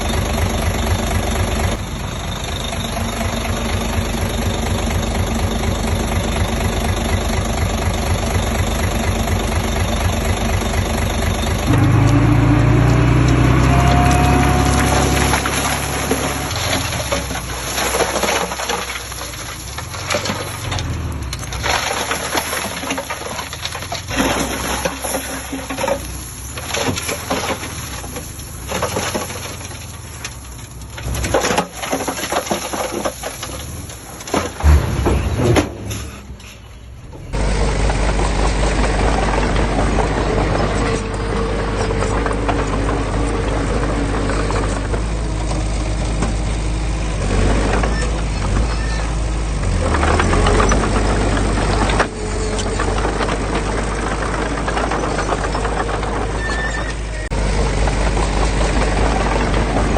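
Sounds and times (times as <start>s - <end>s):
construction machinery rumble: 0.0s - 59.9s
engine running steadily: 0.0s - 59.9s.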